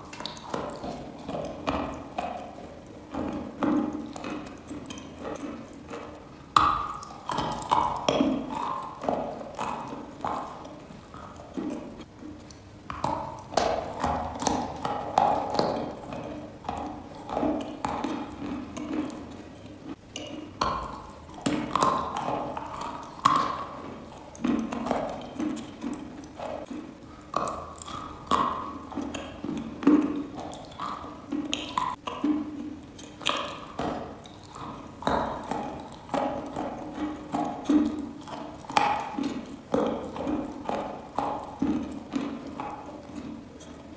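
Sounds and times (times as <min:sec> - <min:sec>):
chalk crunching when chewed: 0:00.0 - 0:43.9
mouth clicks: 0:00.0 - 0:43.9.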